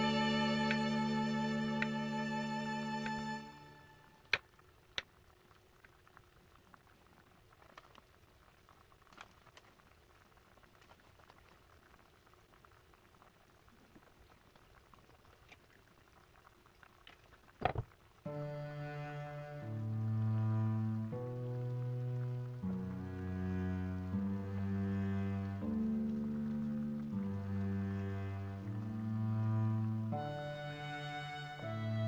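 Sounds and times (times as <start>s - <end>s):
stew bubbling in a saucepan: 4.2s - 31.2s.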